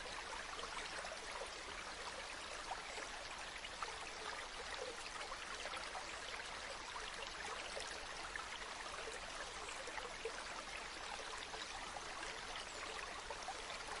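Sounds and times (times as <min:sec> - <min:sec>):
stream babbling over stones: 0:00.0 - 0:14.0.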